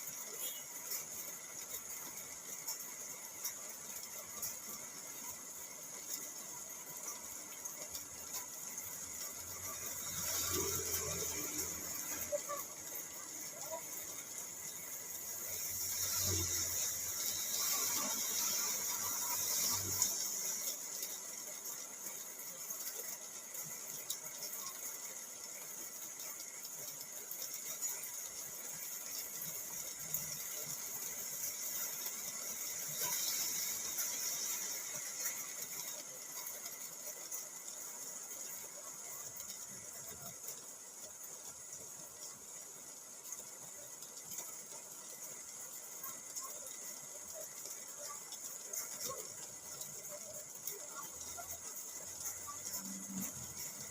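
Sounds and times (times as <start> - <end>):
rain falling on a car: 0.0 - 53.9.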